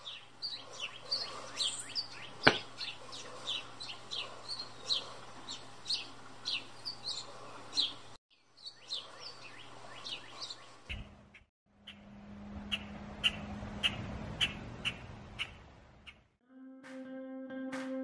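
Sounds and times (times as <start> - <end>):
small birds chirping: 0.0 - 16.3.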